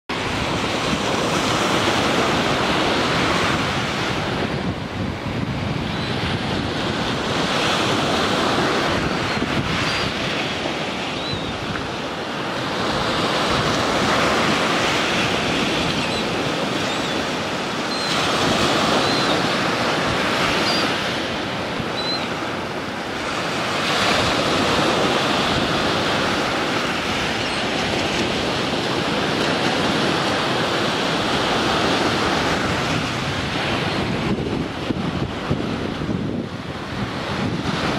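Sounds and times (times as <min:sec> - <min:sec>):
waves crashing on sandy shore: 0:00.1 - 0:37.9.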